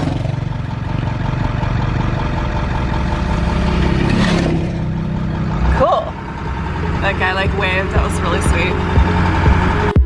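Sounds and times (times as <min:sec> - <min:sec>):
van engine and road noise: 0:00.0 - 0:10.0.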